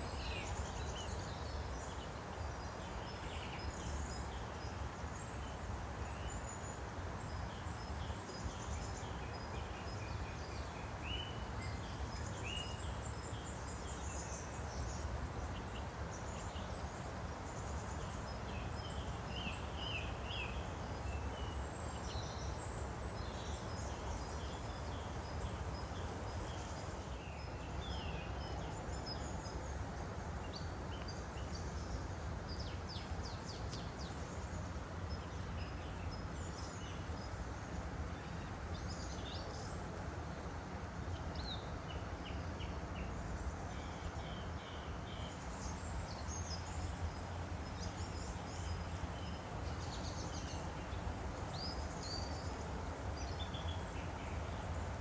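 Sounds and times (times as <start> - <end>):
songbirds chirping and trilling: 0.0 - 55.0
stream flowing: 0.0 - 55.0.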